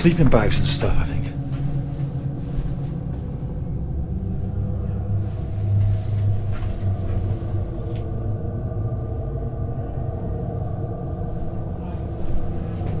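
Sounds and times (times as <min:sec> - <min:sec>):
storm wind rumbling: 0:00.0 - 0:13.0.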